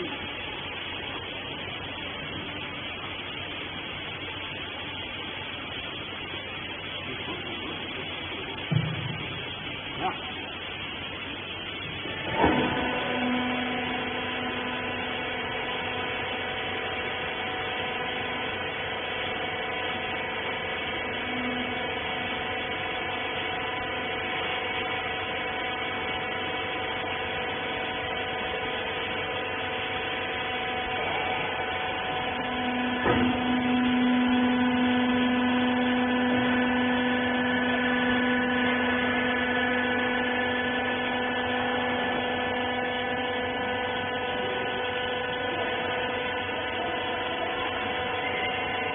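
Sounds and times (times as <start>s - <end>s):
electric motor and pump humming: 0.0s - 48.9s.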